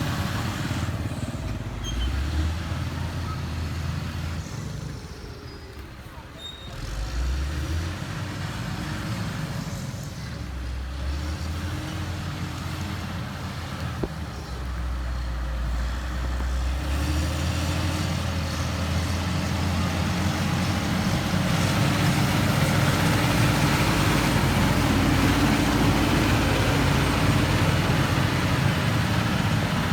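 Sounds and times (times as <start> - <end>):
diesel engine rumbling: 0.0 - 29.9.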